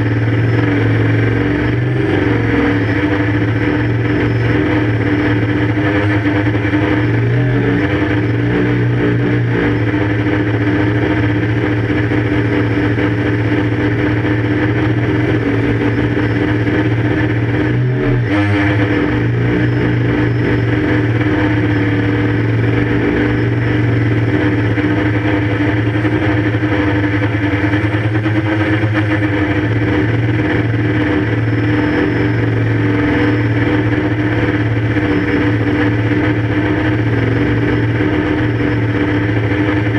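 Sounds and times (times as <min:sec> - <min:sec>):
quadcopter propellers humming: 0:00.0 - 0:39.9.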